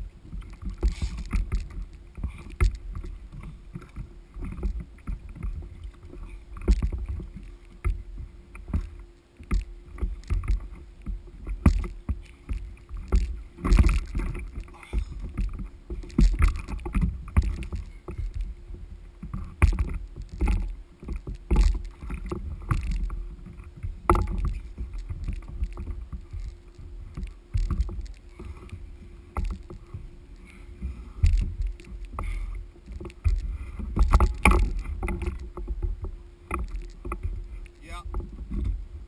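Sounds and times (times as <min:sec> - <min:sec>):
water splashing against kayak: 0:00.0 - 0:39.0
wind rumbling on microphone: 0:00.0 - 0:39.0.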